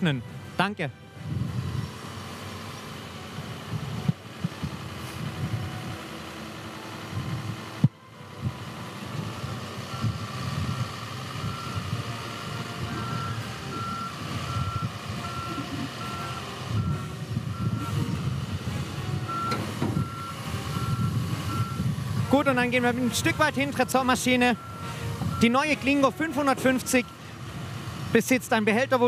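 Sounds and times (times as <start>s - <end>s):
street sweeper rumble: 0.0s - 29.0s.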